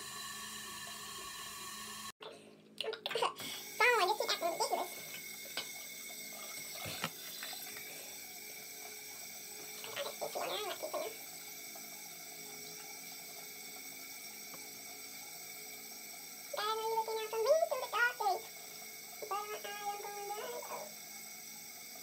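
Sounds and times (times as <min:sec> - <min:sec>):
tap running: 0:03.4 - 0:22.0.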